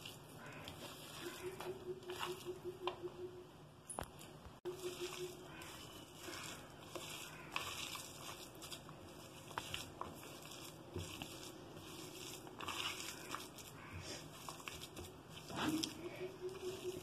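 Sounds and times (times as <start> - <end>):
hand squishing mashed potato: 0.0 - 2.7, 4.7 - 17.0.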